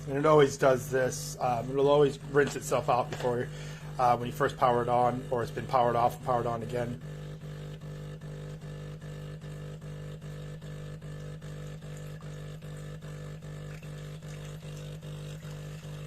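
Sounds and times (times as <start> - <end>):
espresso machine pump humming: 0.0 - 16.0.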